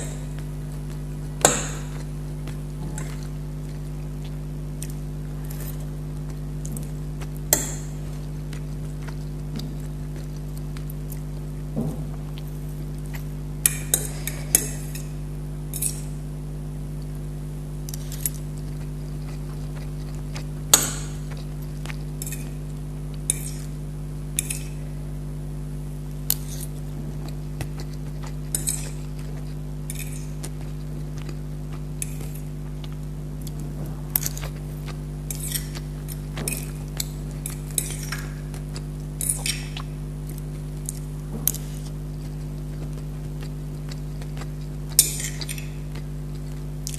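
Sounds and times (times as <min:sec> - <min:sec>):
chewing: 0:00.0 - 0:15.2, 0:17.8 - 0:23.8, 0:26.3 - 0:46.9
low electrical hum: 0:00.0 - 0:46.9.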